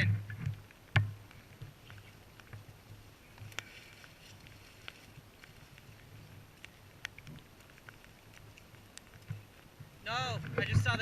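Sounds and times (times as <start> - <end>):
light rustling: 0.0 - 11.0
faint clicks: 0.3 - 11.0.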